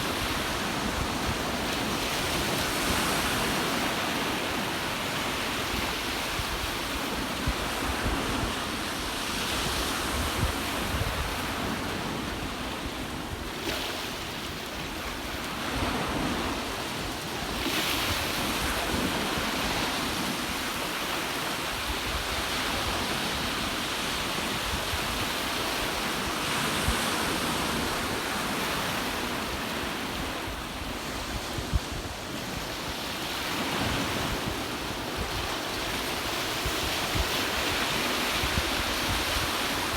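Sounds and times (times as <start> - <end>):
ocean surf on shore: 0.0 - 39.9
wind on microphone: 0.0 - 39.9.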